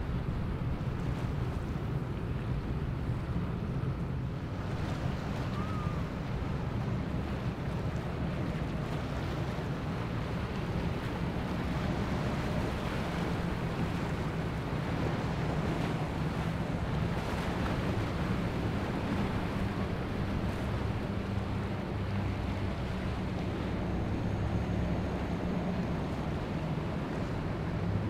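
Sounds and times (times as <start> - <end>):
boat engines droning: 0.0 - 28.0.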